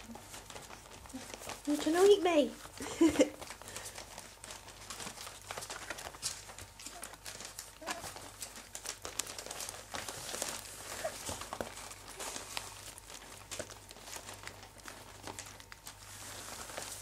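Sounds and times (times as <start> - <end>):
puppies scrabbling and rustling: 0.0 - 17.0.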